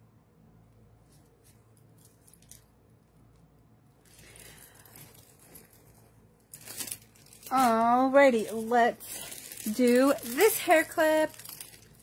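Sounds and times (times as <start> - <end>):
low steady hum: 0.0 - 12.0
rustling of handled objects: 0.7 - 12.0.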